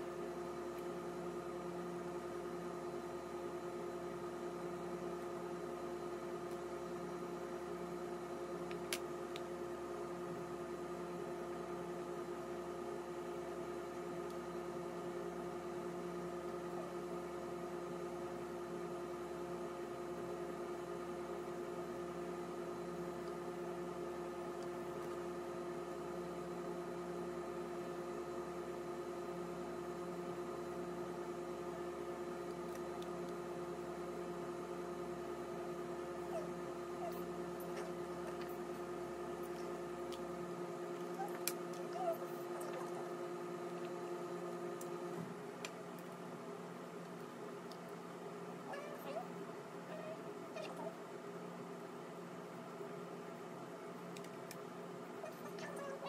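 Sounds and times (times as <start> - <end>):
room hum: 0.0 - 56.0.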